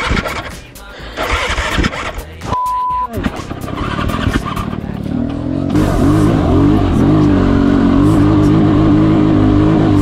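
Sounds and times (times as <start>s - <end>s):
dirt bike engine running: 0.0s - 2.5s, 3.1s - 10.0s.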